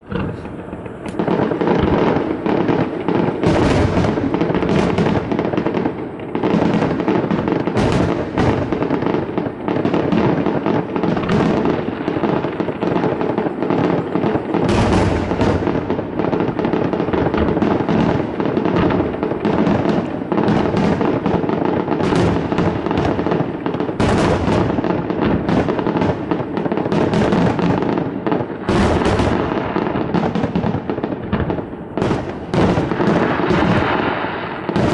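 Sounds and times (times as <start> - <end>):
firework shell bursts and crackling: 0.0 - 34.9
heavy firework bangs: 0.0 - 34.9.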